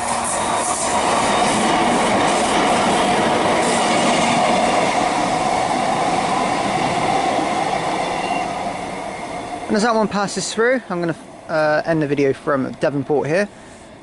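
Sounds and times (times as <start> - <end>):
diesel train passing: 0.0 - 14.0.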